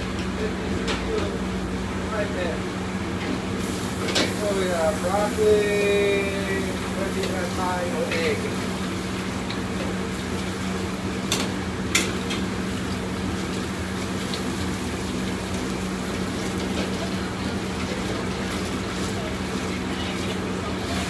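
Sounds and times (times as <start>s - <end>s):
wok range humming: 0.0s - 21.0s
food sizzling in a wok: 3.4s - 21.0s.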